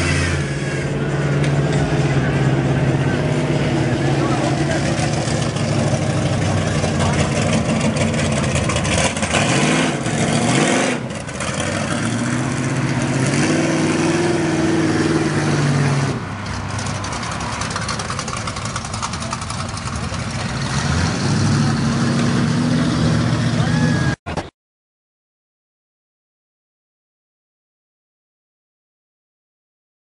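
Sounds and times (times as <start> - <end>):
truck engine revving under load: 0.0 - 24.2.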